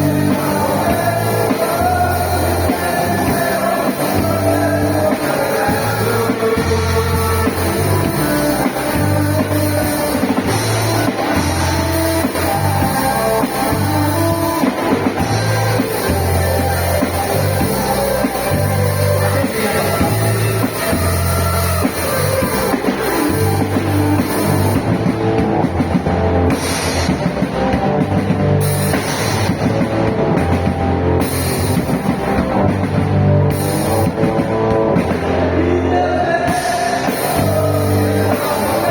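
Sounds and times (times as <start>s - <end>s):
drum kit: 0.0s - 38.9s
pulsing bass line: 0.0s - 38.9s
rock guitar: 0.0s - 38.9s.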